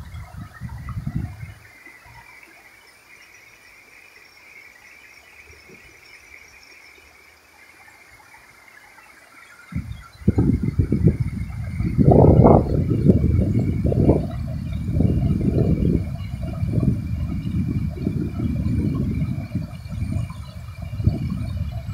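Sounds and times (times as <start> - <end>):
insects chirring: 0.0 - 21.9
shallow stony river rushing: 0.0 - 21.9.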